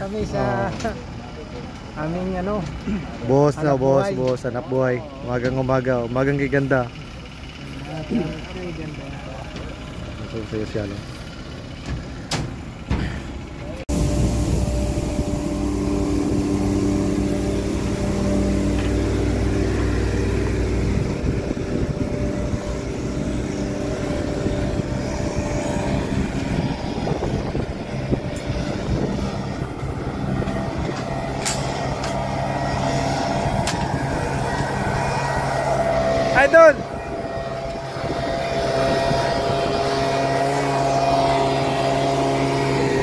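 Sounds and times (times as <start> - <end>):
engine machinery droning: 0.0 - 43.0.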